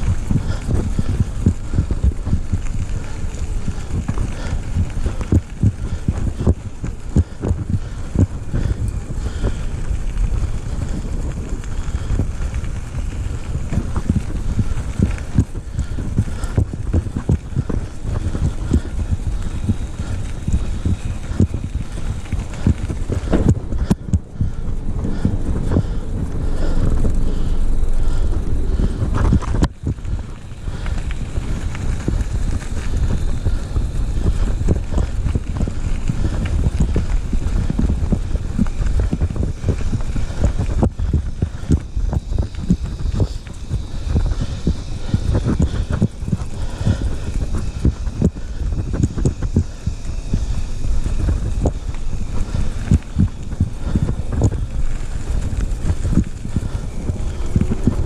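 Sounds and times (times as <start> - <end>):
knocks and rattles on rough trail: 0.0 - 58.0
wind buffeting microphone: 0.0 - 58.0.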